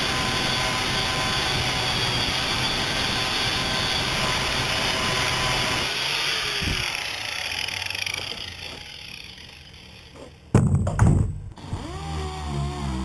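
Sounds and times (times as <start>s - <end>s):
angle grinder sanding: 0.0s - 10.5s.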